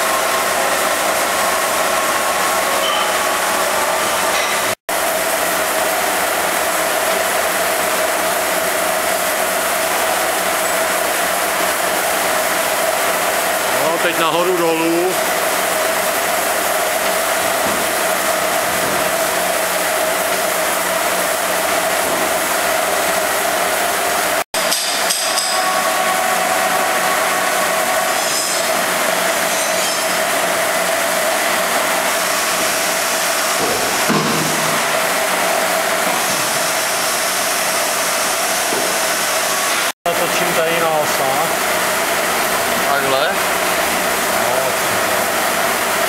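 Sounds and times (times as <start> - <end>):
milling machine whirring: 0.0 - 46.0.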